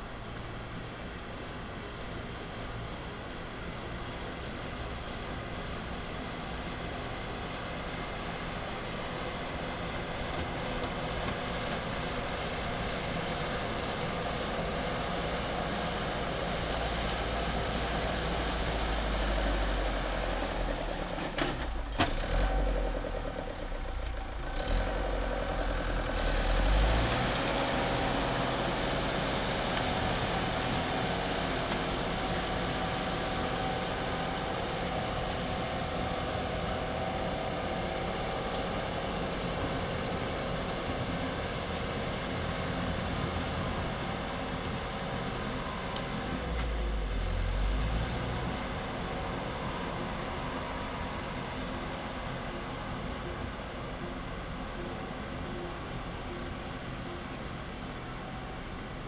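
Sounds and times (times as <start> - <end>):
diesel tractor engine: 0.0 - 59.0.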